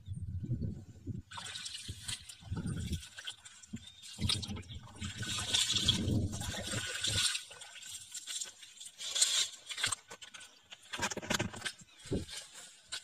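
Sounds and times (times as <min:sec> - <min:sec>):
water splashing: 0:01.3 - 0:13.0.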